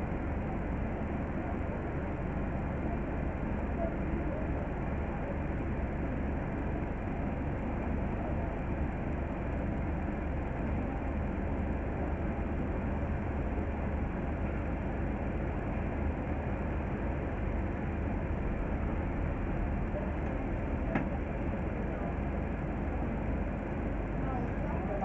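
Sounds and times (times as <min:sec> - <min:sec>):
bus engine idling: 0:00.0 - 0:25.0.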